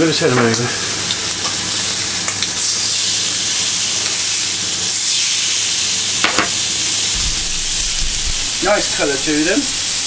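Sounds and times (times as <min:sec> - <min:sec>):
steaks sizzling on griddle pan: 0:00.0 - 0:10.0.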